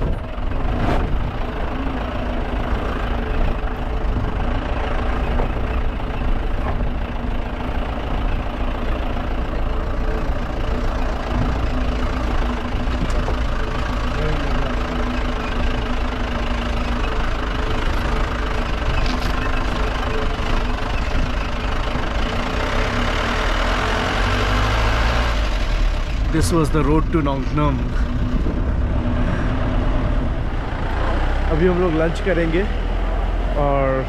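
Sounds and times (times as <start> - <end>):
low road rumble: 0.0 - 34.0
vehicle engine running: 0.0 - 34.0.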